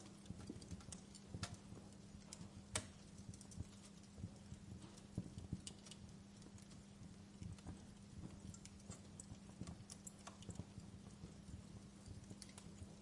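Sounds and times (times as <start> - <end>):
faint low hum: 0.0 - 13.0
wood fire crackling: 0.0 - 13.0.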